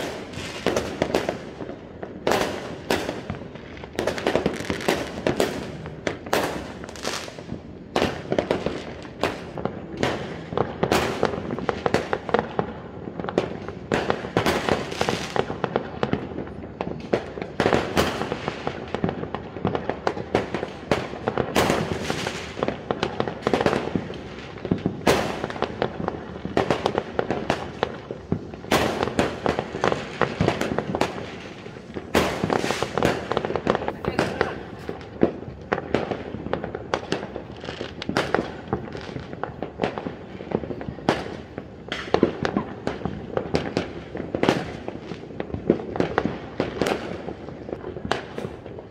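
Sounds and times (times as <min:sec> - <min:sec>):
din of firework bursts: 0:00.0 - 0:48.9
fireworks bangs: 0:00.0 - 0:48.9.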